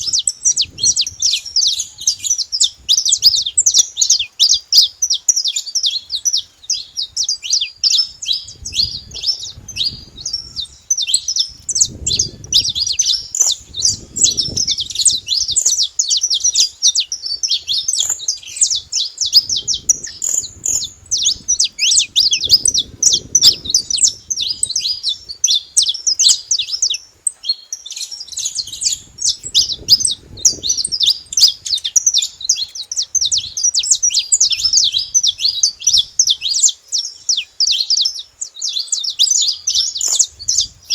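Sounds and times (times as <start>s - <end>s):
finches chirping and singing: 0.0s - 40.9s.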